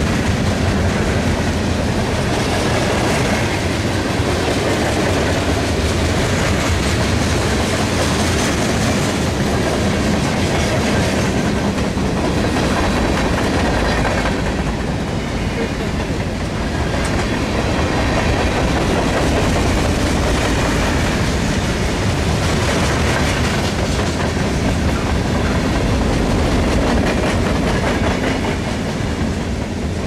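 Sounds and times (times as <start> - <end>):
freight train wheels clattering: 0.0 - 30.0.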